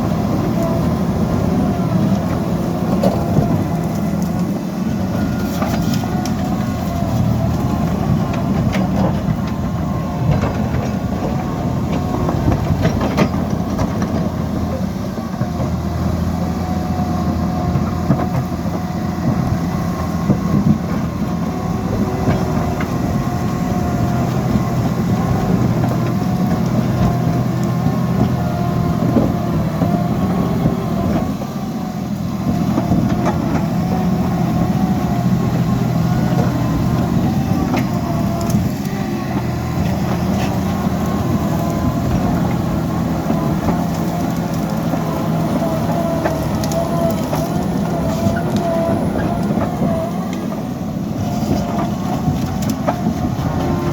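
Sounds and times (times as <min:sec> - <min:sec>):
diesel engine running under load: 0:00.0 - 0:53.9.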